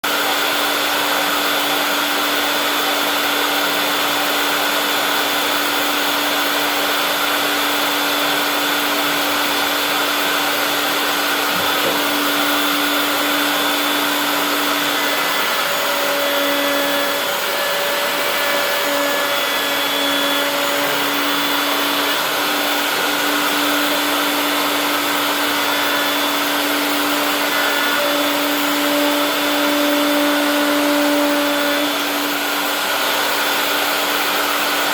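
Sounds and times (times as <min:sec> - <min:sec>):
router motor whining: 0:00.0 - 0:34.9.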